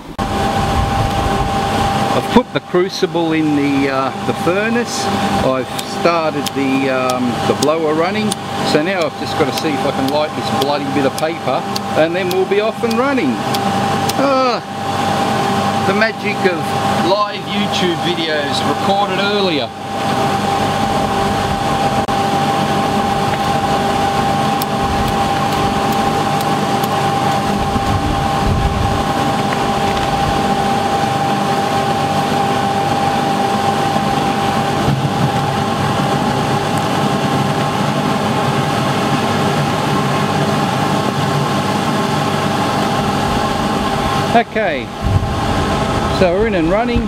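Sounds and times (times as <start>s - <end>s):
air blower whining: 0.0s - 47.0s.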